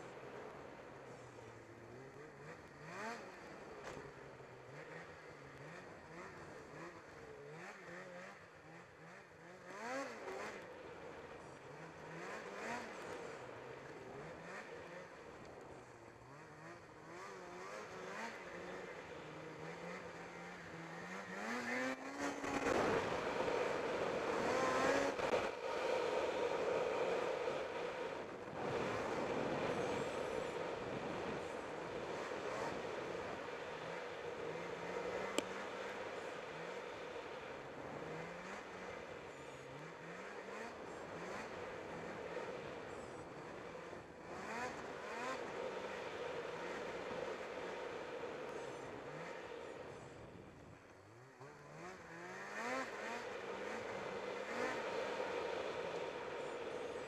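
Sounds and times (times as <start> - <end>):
snowmobile engine revving: 0.8 - 50.4, 51.2 - 57.0.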